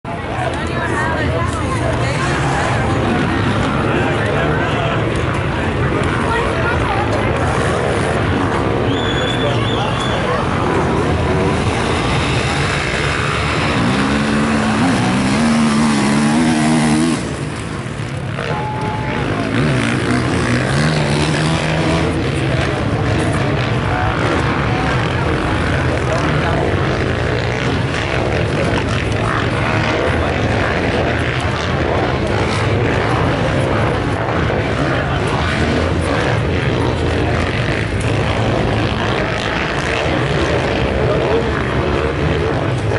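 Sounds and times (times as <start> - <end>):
motocross bike accelerating: 0.1 - 42.9.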